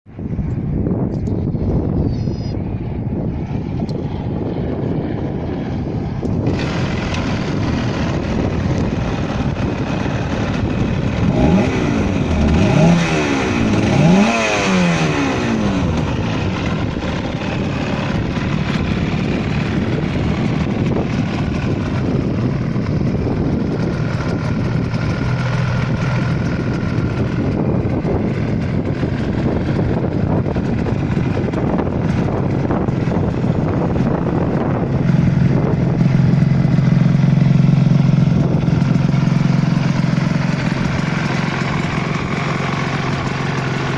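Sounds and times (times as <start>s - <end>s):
two-stroke motorcycle engine revving: 4.8s - 43.9s.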